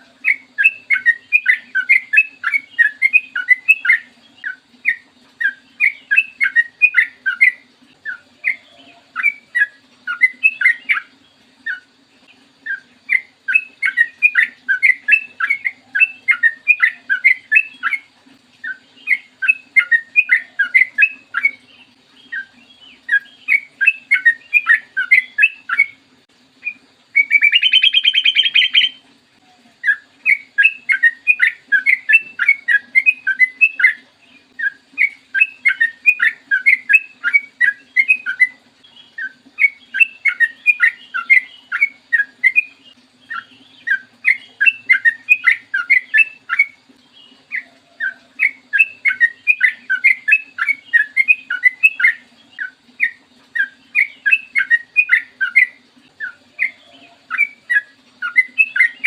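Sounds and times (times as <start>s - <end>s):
bulbul chattering song: 0.0s - 59.0s
faint steady hum: 0.0s - 59.0s.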